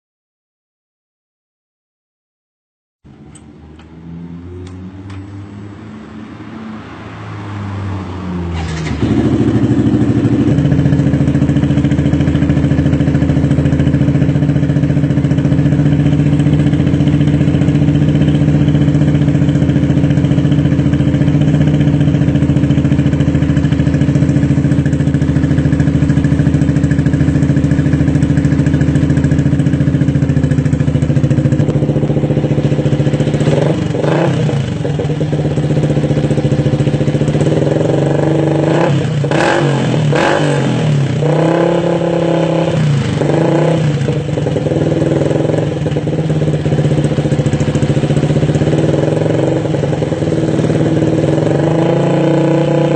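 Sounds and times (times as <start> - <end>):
motorcycle engine revving: 3.1 - 52.9.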